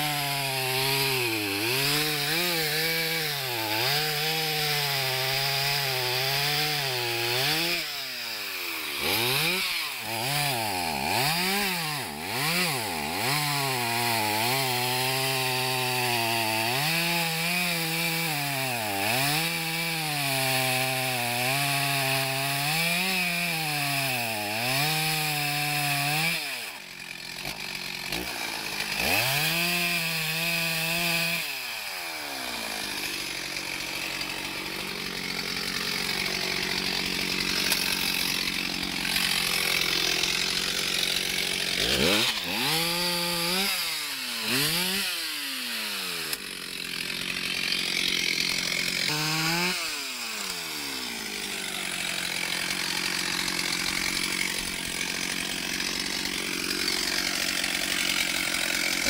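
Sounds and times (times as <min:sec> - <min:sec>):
chainsaw cutting a log: 0:00.0 - 0:59.0.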